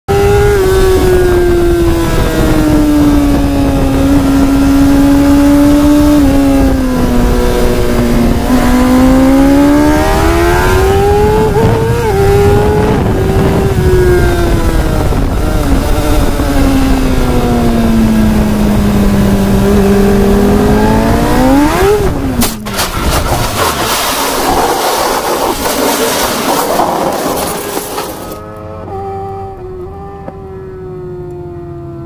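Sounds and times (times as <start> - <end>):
wind noise: 0.1 - 28.4
motorcycle engine at high revs: 0.1 - 30.5.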